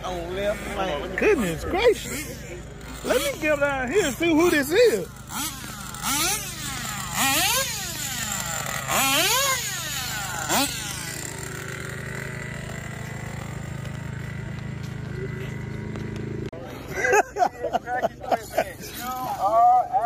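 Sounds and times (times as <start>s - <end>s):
toy car motor revving: 0.0s - 16.0s, 18.7s - 19.8s.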